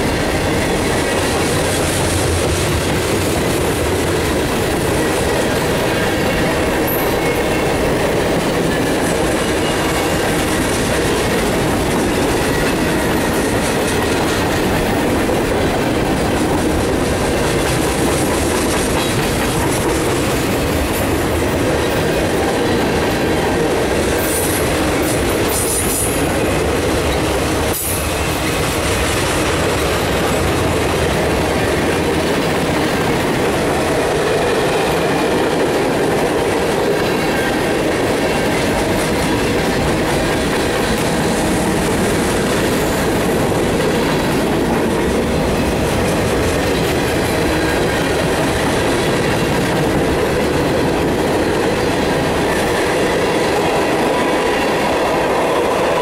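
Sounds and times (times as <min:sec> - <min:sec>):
freight cars rolling on rails: 0:00.0 - 0:56.0.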